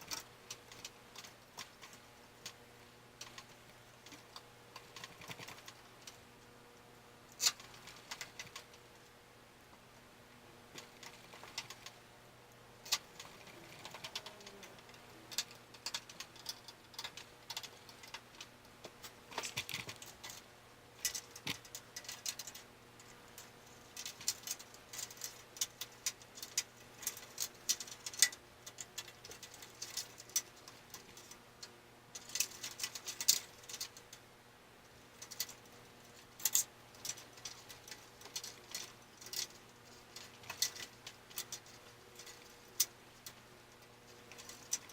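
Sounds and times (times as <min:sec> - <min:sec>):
computer parts clicking and rattling: 0:00.0 - 0:02.6, 0:03.2 - 0:06.2, 0:07.3 - 0:08.9, 0:10.7 - 0:12.0, 0:12.8 - 0:34.2, 0:34.9 - 0:44.9
faint steady hum: 0:00.0 - 0:44.9.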